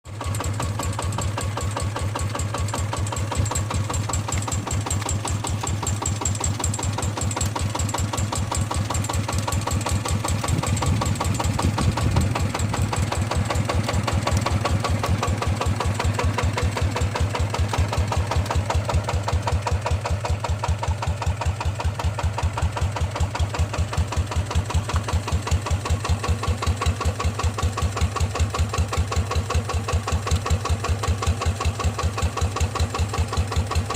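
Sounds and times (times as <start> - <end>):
diesel engine thumping exhaust: 0.2 - 33.9.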